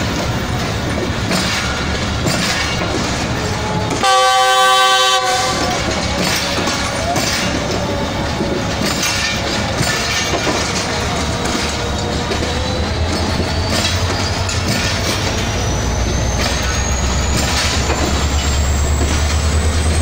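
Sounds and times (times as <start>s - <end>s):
train wheels clattering over joints: 0.0s - 20.0s.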